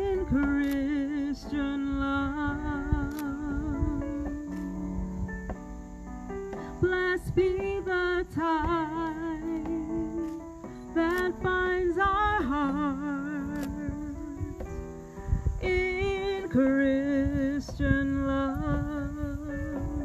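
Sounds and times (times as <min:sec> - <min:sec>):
woman singing with vibrato: 0:00.0 - 0:05.3, 0:06.7 - 0:10.4, 0:11.0 - 0:14.6, 0:15.6 - 0:20.0
electric keyboard chords: 0:00.0 - 0:20.0.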